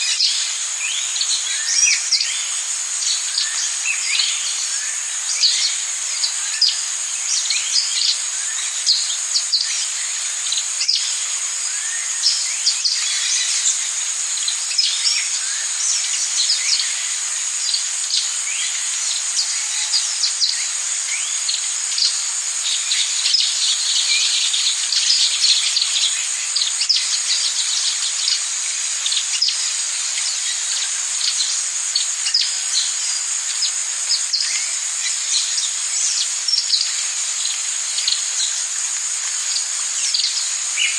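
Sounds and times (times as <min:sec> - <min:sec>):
birds calling and chirping: 0:00.0 - 0:40.9
insects chorus: 0:00.0 - 0:40.9.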